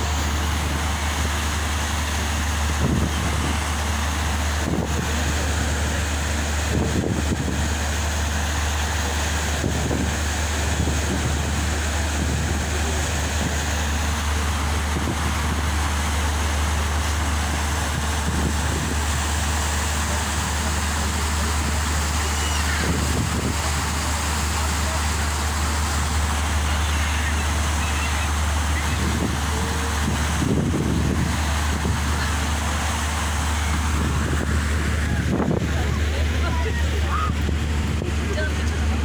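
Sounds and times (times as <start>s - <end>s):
ship engine drone: 0.0s - 39.0s
wind on microphone: 0.0s - 39.0s.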